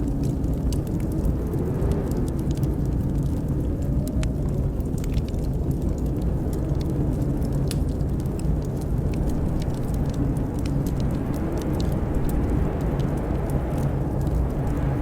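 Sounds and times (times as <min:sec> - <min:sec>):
blizzard wind rumble: 0:00.0 - 0:15.0
wood fire crackling: 0:00.0 - 0:15.0.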